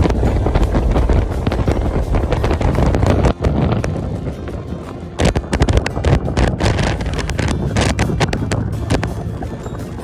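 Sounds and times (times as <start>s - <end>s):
engine and road rumble: 0.0s - 10.0s
wind buffeting microphone: 0.0s - 10.0s.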